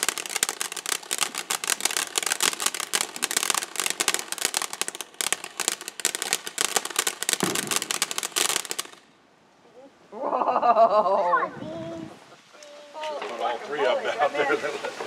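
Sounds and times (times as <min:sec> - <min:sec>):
firework fountain crackling: 0:00.0 - 0:09.2, 0:11.6 - 0:15.0.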